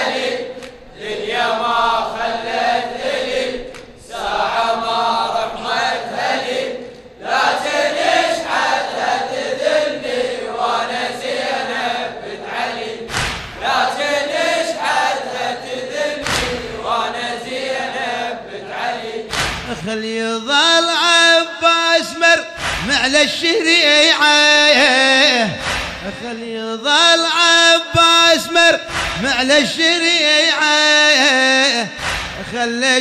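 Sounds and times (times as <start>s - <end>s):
men chanting in chorus: 0.0s - 33.0s.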